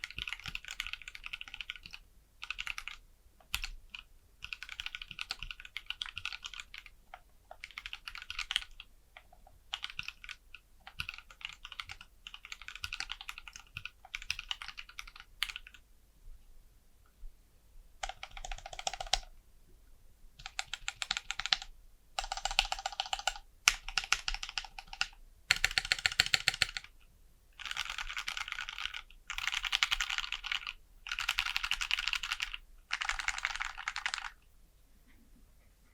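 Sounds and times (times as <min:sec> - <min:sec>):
mechanical keyboard typing: 0:00.0 - 0:15.8, 0:18.0 - 0:19.3, 0:20.4 - 0:27.0, 0:27.6 - 0:34.4.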